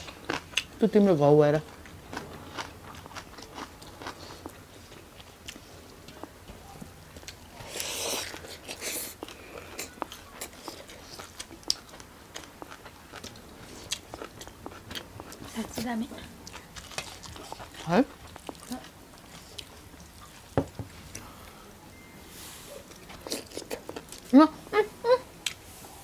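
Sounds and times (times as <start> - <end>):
close-miked chewing and crunching: 0.0 - 21.5, 22.7 - 24.4.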